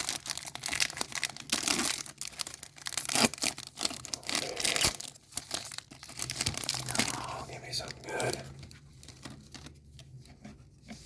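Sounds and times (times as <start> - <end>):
wrapper crinkling and tearing: 0.0 - 9.8.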